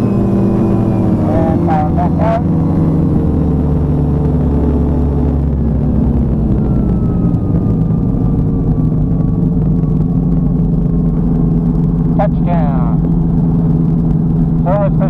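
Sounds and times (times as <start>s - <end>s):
light aircraft engine running: 0.0s - 15.0s.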